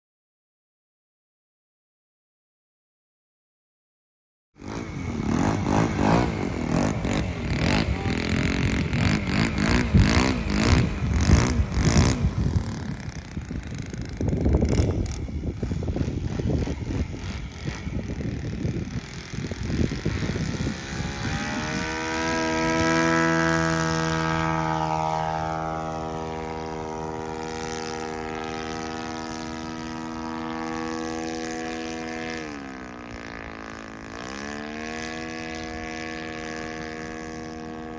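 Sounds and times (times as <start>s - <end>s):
model airplane engine running: 4.6s - 37.9s.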